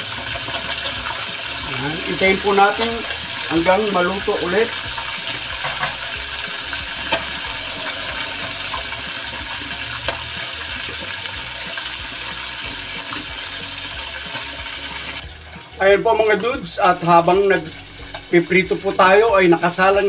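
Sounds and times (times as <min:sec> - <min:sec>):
food sizzling in hot oil: 0:00.0 - 0:20.0
oil popping: 0:00.0 - 0:20.0.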